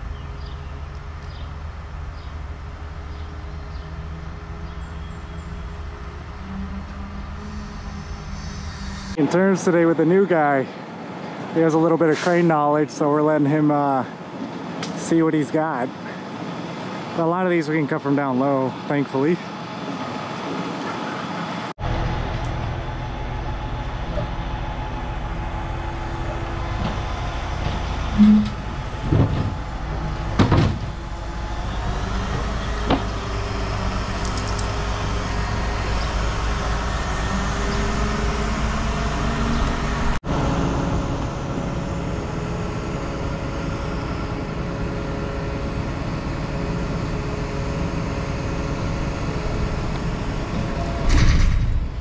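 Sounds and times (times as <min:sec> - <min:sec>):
crane engine running: 0:00.0 - 0:52.0.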